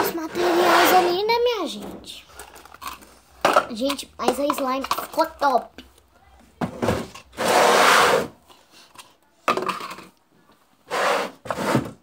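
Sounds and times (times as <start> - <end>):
rubbing and scraping handling noise: 0.0 - 12.0.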